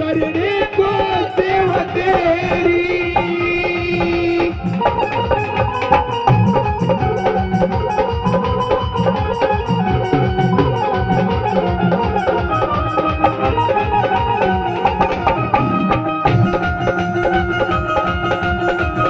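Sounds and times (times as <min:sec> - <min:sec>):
dhol drumming: 0:00.0 - 0:19.0
electronic drum pad rhythm: 0:00.0 - 0:19.0
held melody line: 0:00.0 - 0:19.0.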